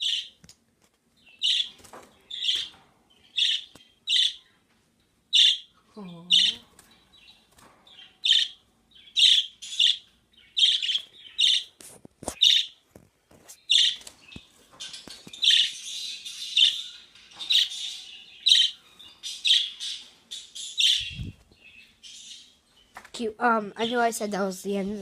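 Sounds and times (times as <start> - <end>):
small birds chirping: 0.0 - 12.8, 13.4 - 25.0.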